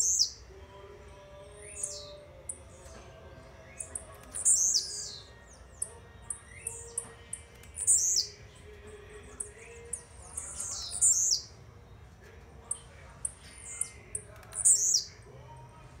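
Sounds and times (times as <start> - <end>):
bird chirping: 0.0 - 0.5, 1.3 - 15.3
bird song phrase: 0.0 - 16.0.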